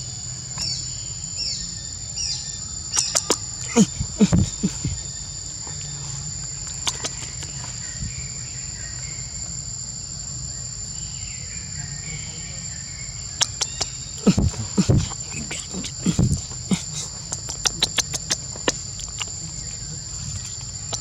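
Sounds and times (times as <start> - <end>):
insects droning in chorus: 0.0 - 21.0.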